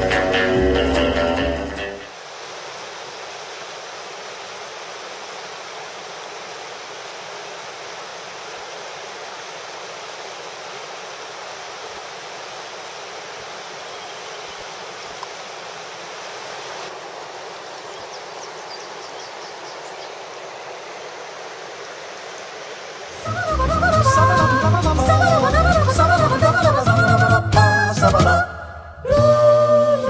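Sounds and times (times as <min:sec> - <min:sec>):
fast-flowing river rushing: 0:00.0 - 0:27.9.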